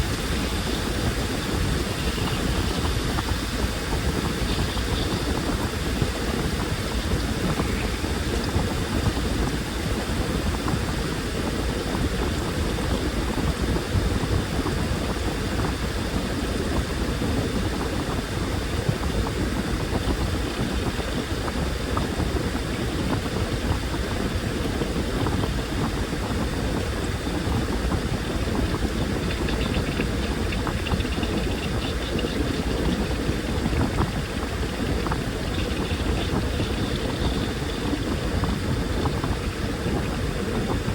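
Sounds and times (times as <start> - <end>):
washing machine drum churning: 0.0 - 40.9.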